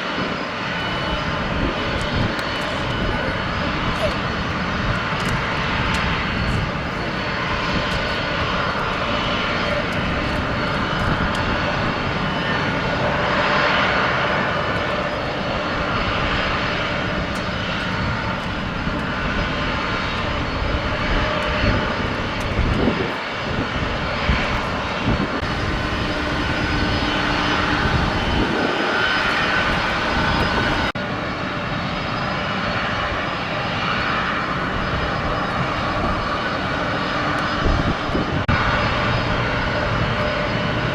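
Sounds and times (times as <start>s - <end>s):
aircraft engines running: 0.0s - 40.9s
steady whining tones: 0.0s - 40.9s.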